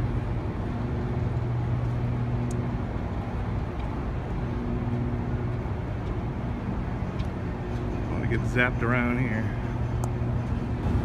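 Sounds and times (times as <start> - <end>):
transformer electrical hum: 0.0 - 11.0.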